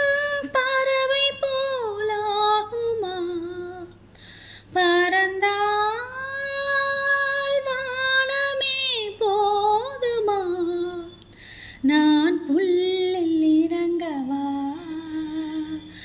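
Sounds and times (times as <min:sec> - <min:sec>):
woman singing unaccompanied: 0:00.0 - 0:04.0, 0:04.7 - 0:11.2, 0:11.8 - 0:16.0.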